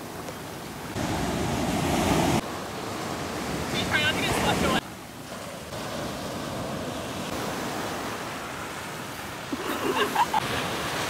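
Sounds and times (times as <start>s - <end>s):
ocean surf washing ashore: 0.0s - 11.0s.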